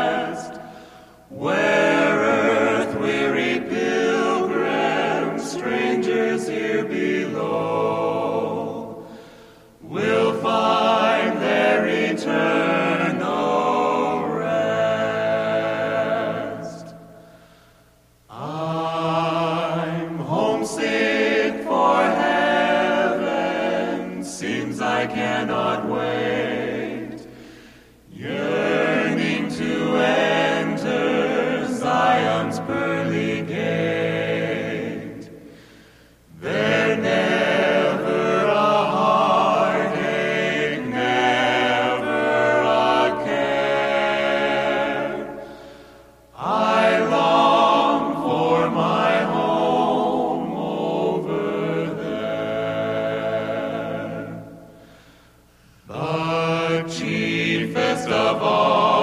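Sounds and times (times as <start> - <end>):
male vocal quartet singing a hymn: 0.0 - 59.0.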